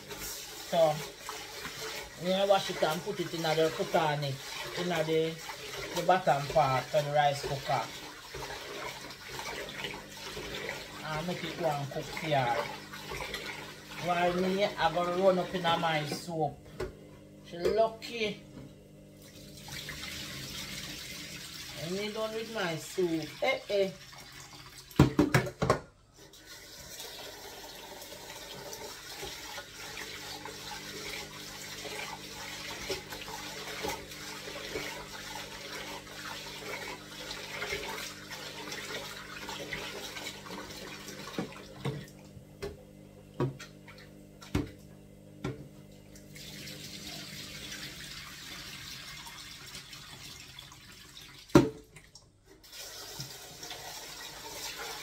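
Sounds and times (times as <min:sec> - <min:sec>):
kitchen tap running into sink: 0:00.0 - 0:17.9, 0:19.1 - 0:42.8, 0:43.4 - 0:55.0.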